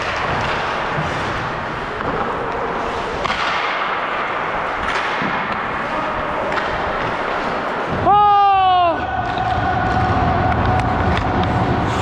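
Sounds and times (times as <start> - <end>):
skate blades on ice: 0.0 - 12.0.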